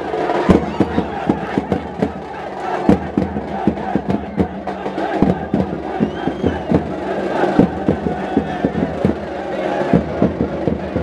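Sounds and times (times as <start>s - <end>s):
crowd shouting and chanting: 0.0s - 11.0s
drums beating fast rhythm: 0.0s - 11.0s.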